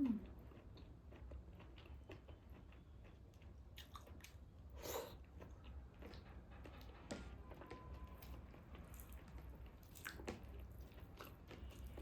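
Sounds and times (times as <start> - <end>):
person chewing food: 0.2 - 6.9, 8.2 - 12.0.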